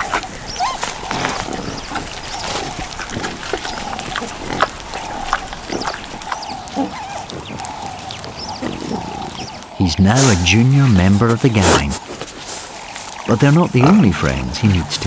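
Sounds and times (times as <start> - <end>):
warthogs grunting and snorting: 0.0 - 15.0.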